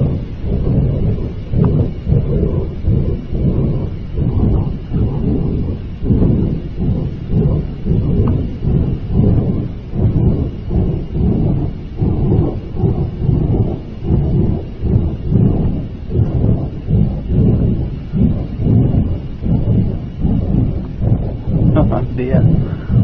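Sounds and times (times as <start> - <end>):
low rumbling roar: 0.0 - 23.0.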